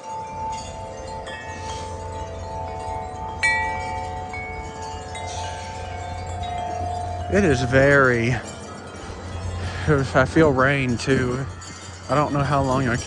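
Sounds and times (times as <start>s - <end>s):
wind chimes ringing: 0.0s - 13.0s
wind rumble on microphone: 0.0s - 13.0s.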